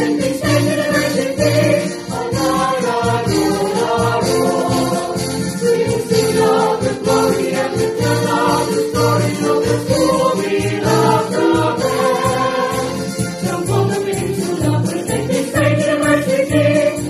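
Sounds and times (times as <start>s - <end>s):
choir singing a hymn: 0.0s - 17.0s
instrumental accompaniment: 0.0s - 17.0s.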